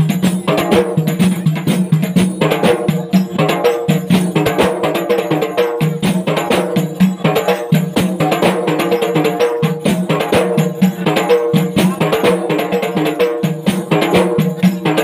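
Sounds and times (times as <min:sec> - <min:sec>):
frame drums beaten by hand: 0:00.0 - 0:15.0.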